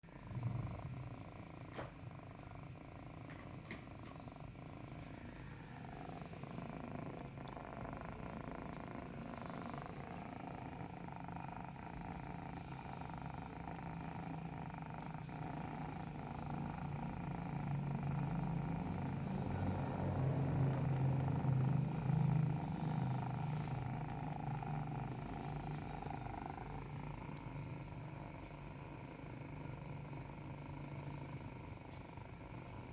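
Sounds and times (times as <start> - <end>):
kitten purring: 0.0 - 32.9.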